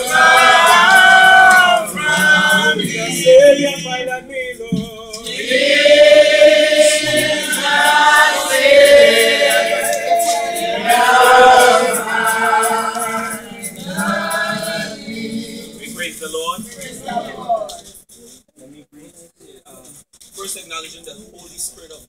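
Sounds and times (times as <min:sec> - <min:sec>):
congregation singing a hymn: 0:00.0 - 0:17.7.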